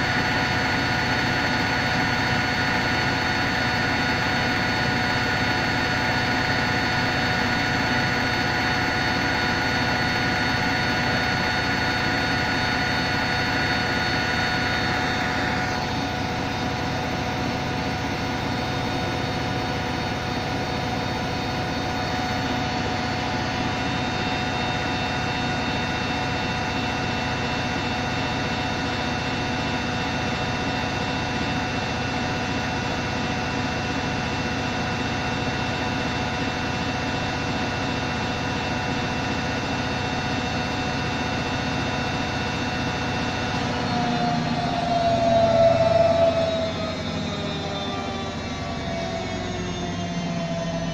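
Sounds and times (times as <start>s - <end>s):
high whine: 0.0s - 50.9s
washing machine motor hum: 0.0s - 50.9s.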